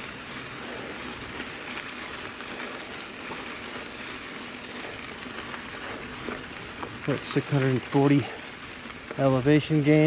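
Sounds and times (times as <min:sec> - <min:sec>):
bike tyres rolling on gravel: 0:00.0 - 0:10.0
faint ticks of stones: 0:00.0 - 0:10.0.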